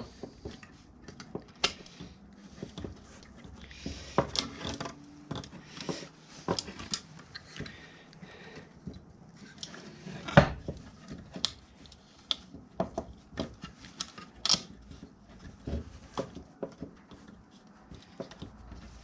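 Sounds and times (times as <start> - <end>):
hard objects clicking and knocking: 0.0 - 19.0.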